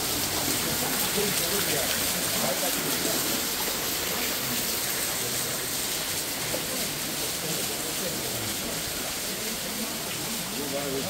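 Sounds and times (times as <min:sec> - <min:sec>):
faint voices: 0:00.0 - 0:11.0
water trickling over stones: 0:00.0 - 0:11.0.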